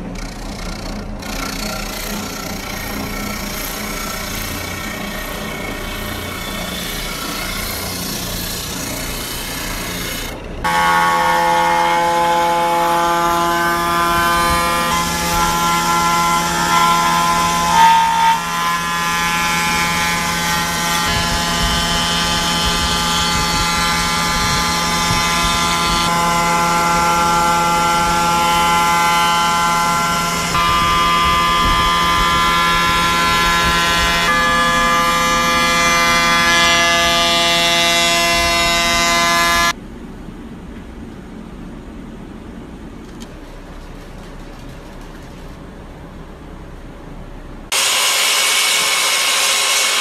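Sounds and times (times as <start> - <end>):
router motor whine cutting wood: 0.0 - 39.8, 47.7 - 50.0.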